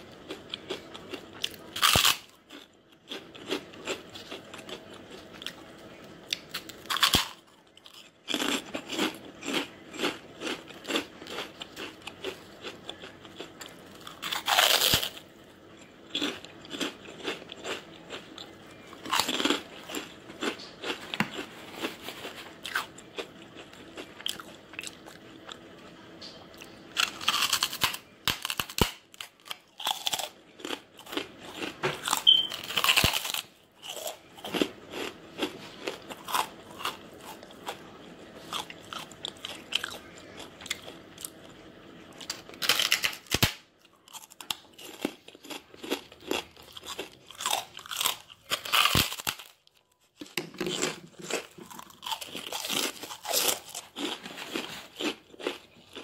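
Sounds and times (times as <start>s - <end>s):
person crunching crispy chips: 0.0s - 5.7s, 6.3s - 25.6s, 26.9s - 41.5s, 42.1s - 56.0s.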